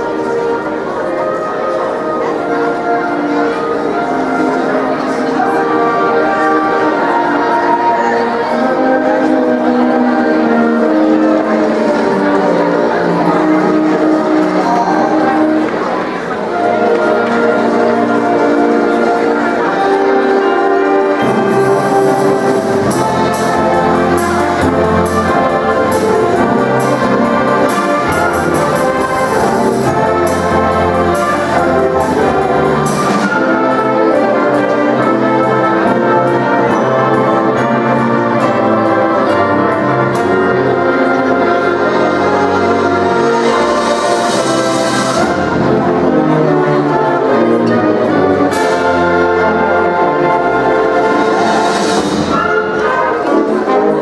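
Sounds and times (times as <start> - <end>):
wind band playing: 0.0 - 54.0.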